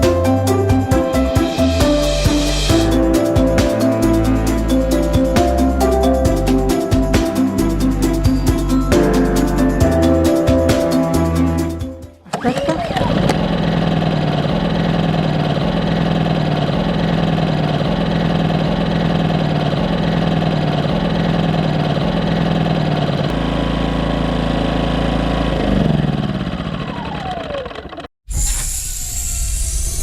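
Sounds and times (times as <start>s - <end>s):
generator engine running: 0.0s - 28.1s.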